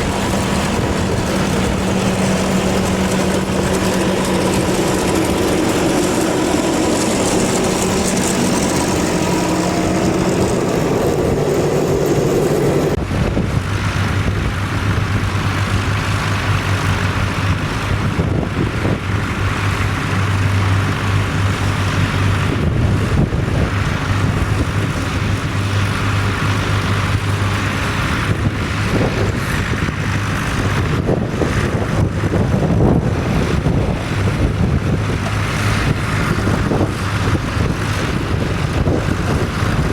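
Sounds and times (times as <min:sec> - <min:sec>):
rough rushing noise: 0:00.0 - 0:39.9
tractor engine running: 0:00.0 - 0:39.9.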